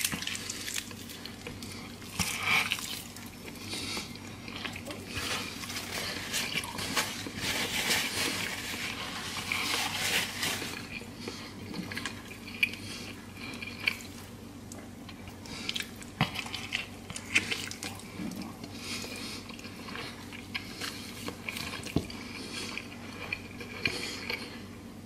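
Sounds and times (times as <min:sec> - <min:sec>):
person chewing: 0:00.0 - 0:24.8.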